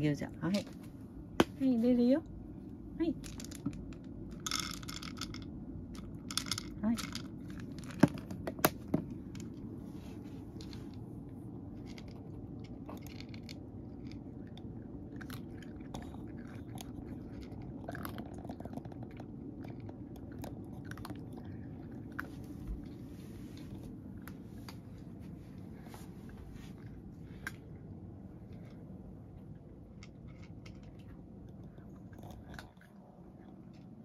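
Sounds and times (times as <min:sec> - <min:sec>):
cat crunching dry kibble: 0:03.2 - 0:34.0.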